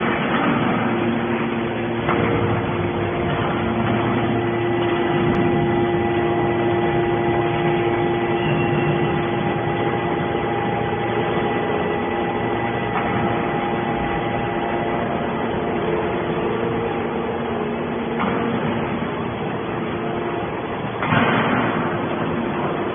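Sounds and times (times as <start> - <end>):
scrap metal baler humming: 0.0 - 22.9.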